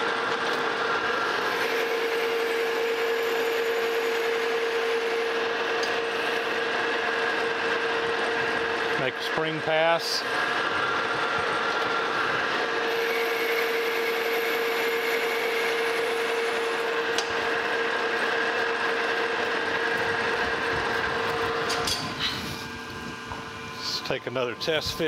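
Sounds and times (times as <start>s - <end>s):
metal lathe gears whining: 0.0s - 25.0s.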